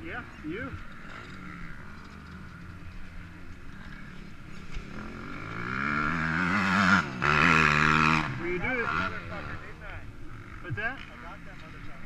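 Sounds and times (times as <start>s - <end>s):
quad engine idling and revving: 0.0s - 12.0s.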